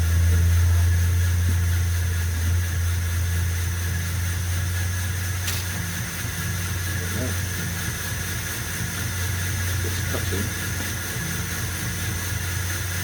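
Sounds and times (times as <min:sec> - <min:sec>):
belt grinder motor humming: 0:00.0 - 0:13.0.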